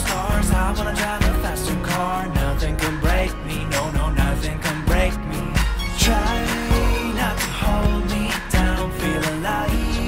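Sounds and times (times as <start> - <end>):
background pop music: 0.0 - 10.0.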